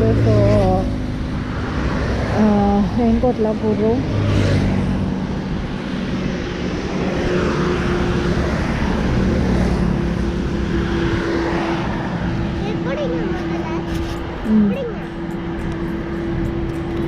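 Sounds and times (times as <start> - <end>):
motorbike engine drone: 0.0 - 17.0
road and wind rush: 0.0 - 17.0.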